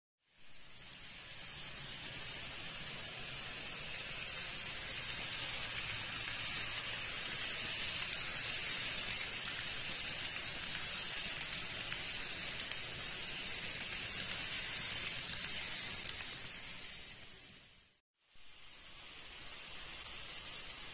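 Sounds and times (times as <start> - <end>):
model train whirring on track: 0.3 - 20.9.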